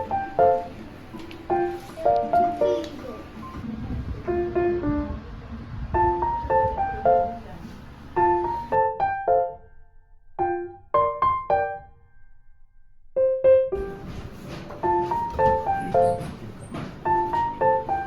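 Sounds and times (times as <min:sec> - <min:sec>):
light piano music: 0:00.0 - 0:18.0.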